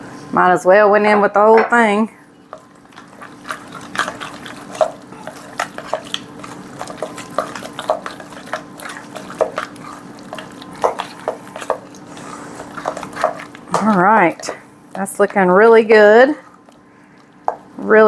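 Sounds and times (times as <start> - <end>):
faint steady hum: 0.0 - 18.0
utensil stirring in metal bowl: 2.5 - 18.0.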